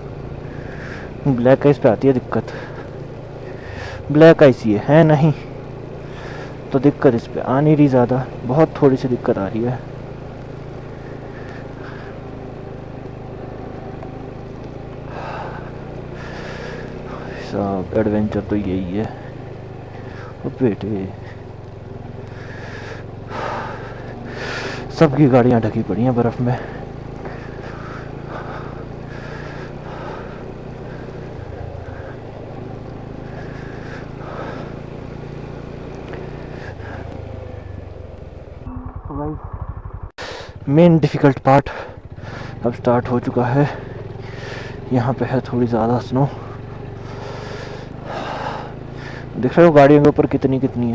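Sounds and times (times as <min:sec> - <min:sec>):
motorcycle engine humming: 0:00.0 - 0:50.9
wind and road noise: 0:00.0 - 0:50.9.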